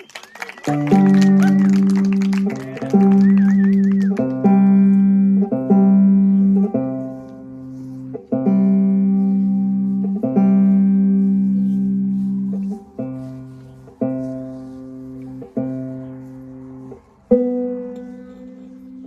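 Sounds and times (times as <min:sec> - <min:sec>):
slow instrumental music ringing notes: 0:00.7 - 0:19.0.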